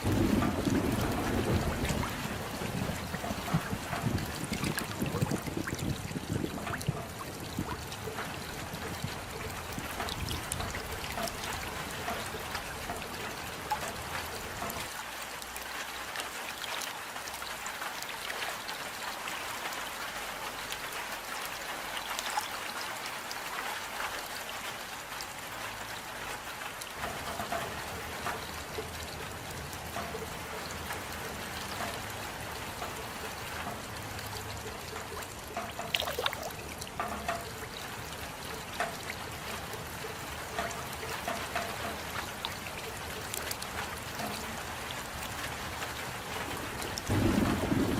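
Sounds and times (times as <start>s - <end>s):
louder raindrops: 0.0s - 47.9s
steady rain patter: 0.0s - 47.9s.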